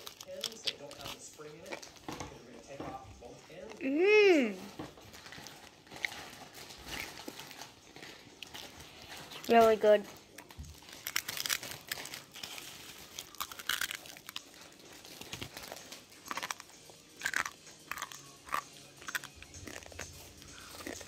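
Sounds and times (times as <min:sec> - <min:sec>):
child chewing noodles: 0:00.0 - 0:21.0.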